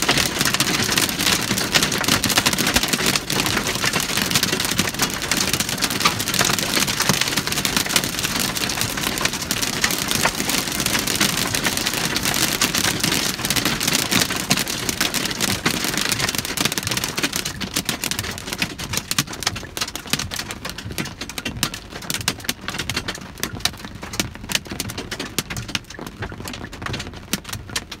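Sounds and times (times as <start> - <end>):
hail hitting car roof: 0.0 - 28.0.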